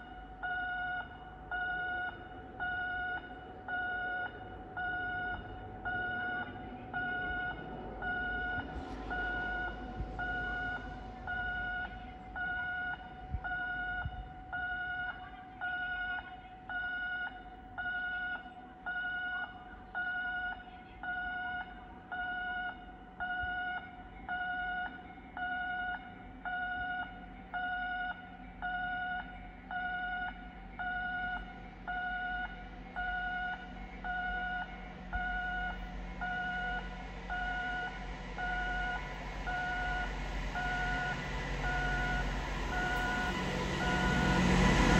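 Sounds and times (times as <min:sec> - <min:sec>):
faint low hum: 0:00.0 - 0:44.9
railway warning alarm beeping: 0:00.0 - 0:44.9.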